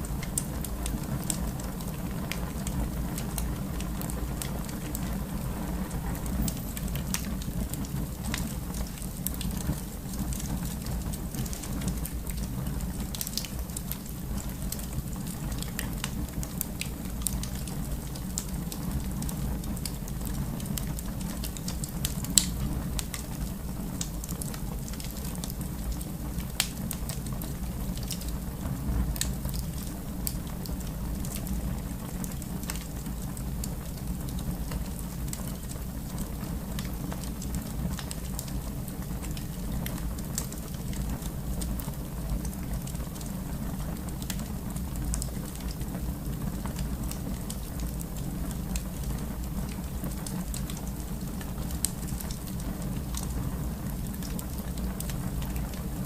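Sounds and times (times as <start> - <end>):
wood fire burning with crackles: 0.0 - 56.0.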